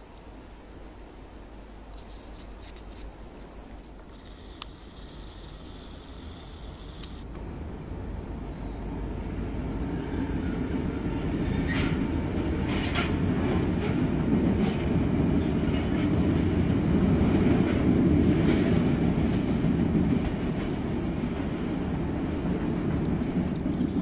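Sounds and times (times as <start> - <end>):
train wheels rumbling on rail: 4.0 - 24.0.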